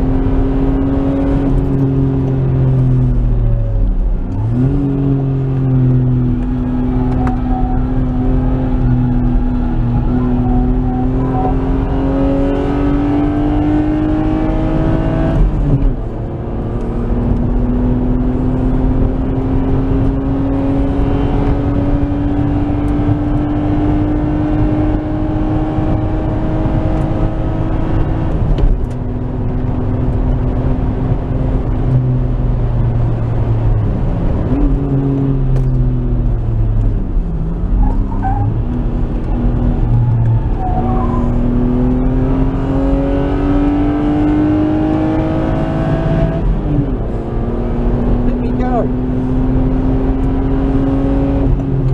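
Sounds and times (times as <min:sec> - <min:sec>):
car engine revving: 0:00.0 - 0:51.9
road and wind noise: 0:00.0 - 0:51.9.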